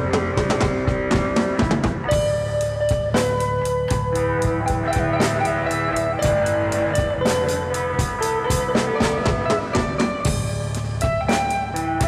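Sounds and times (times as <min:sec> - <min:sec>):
guitar and drum kit music: 0:00.0 - 0:12.0.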